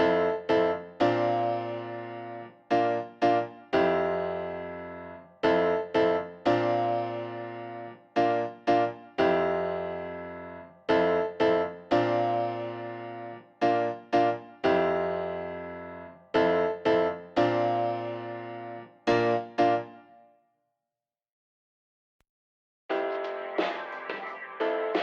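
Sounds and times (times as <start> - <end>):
piano chords: 0.0 - 20.2, 22.9 - 25.0.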